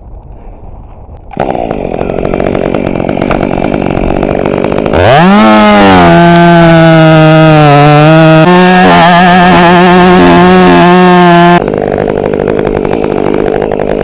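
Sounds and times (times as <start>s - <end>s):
chainsaw cutting wood: 1.3s - 14.0s.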